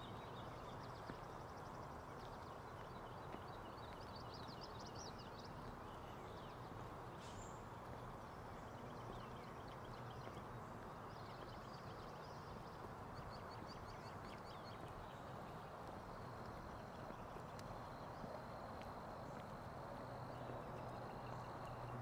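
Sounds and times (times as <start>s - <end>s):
small birds chirping: 0.0s - 19.6s
faint outdoor ambience rush: 0.0s - 22.0s.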